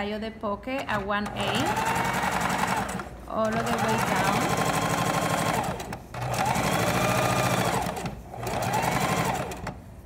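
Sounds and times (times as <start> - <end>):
sewing machine stitching: 0.8 - 9.8.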